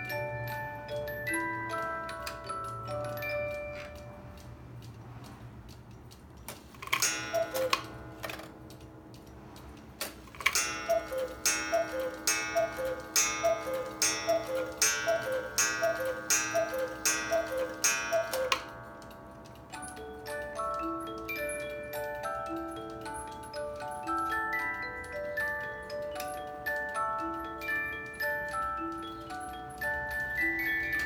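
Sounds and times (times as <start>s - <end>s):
cuckoo clock call: 0.0s - 4.6s, 6.8s - 8.6s, 10.3s - 31.0s
music box tune: 0.0s - 5.0s, 6.7s - 31.0s
clock ticking: 0.0s - 31.0s.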